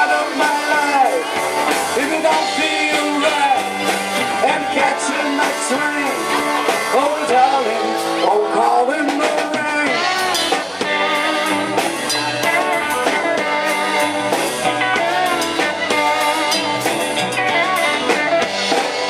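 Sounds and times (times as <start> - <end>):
person singing: 0.0 - 19.0
rock band instrumental: 0.0 - 19.0.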